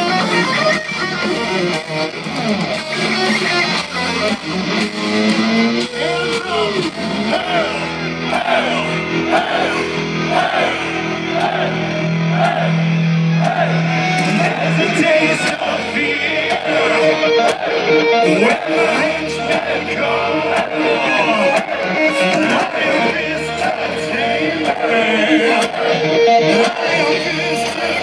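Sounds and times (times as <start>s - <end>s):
heavy metal band playing: 0.0s - 28.0s
lead guitar bent notes: 0.0s - 28.0s.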